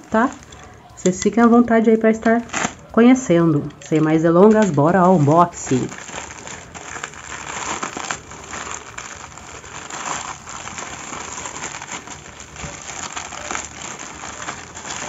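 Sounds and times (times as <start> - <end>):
plastic bag and bubble wrap crinkling: 0.0 - 15.0.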